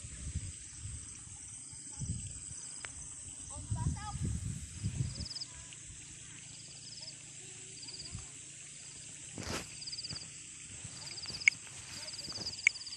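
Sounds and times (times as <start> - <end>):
insects chirping in pulsed trills: 0.0 - 12.9.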